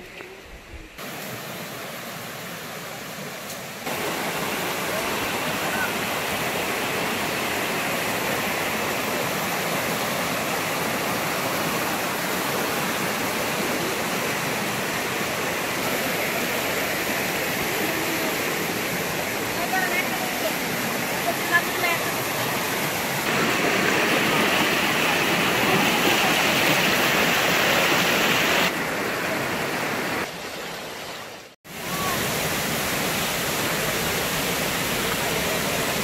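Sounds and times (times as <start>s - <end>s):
water rushing over rocks: 0.9s - 36.0s.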